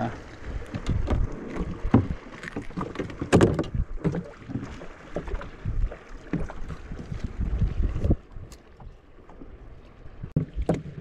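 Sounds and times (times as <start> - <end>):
water slapping boat hull: 0.0 - 11.0
wind rumble on microphone: 0.0 - 11.0.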